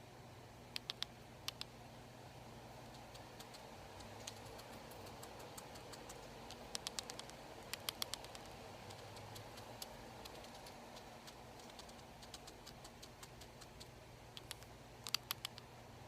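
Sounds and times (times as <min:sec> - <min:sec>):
sharp clicks: 0:00.7 - 0:01.7, 0:02.9 - 0:15.7
guinea pig purring: 0:02.8 - 0:15.6.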